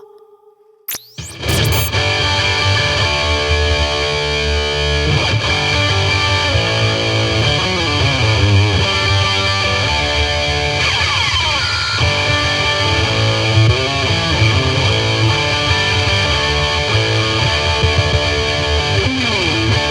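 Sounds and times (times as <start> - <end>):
distorted electric guitar: 0.9 - 19.9.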